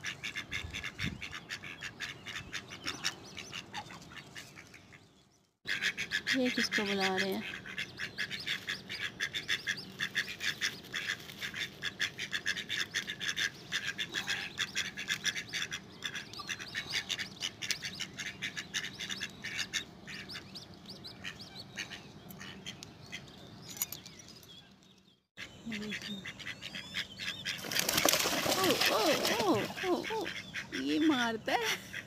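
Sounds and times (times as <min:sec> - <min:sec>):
ducks quacking: 0:00.0 - 0:05.0, 0:05.7 - 0:20.6, 0:25.4 - 0:32.0.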